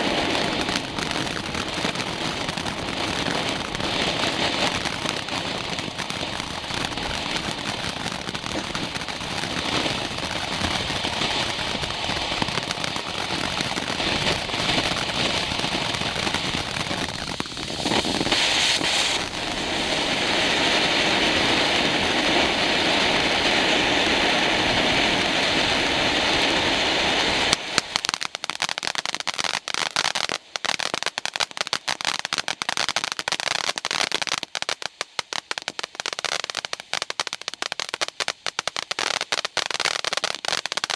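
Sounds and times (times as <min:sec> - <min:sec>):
rapid crackling pops: 0:00.0 - 0:23.5, 0:27.2 - 0:40.9
firework fountain hissing: 0:00.0 - 0:40.9.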